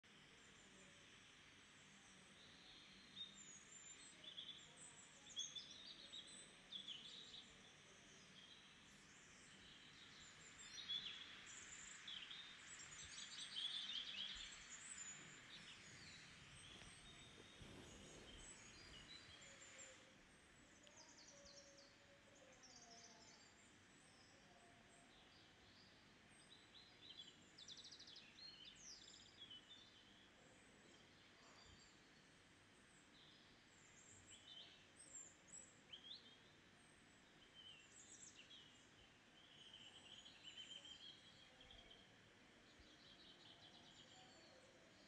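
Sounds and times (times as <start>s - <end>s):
low steady hiss: 0.0s - 45.0s
small birds chirping: 2.0s - 45.0s.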